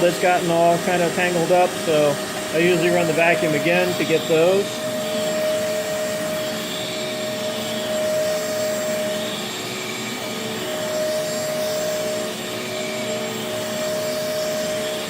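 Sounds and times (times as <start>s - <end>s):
carpet cleaner motor droning: 0.0s - 15.0s.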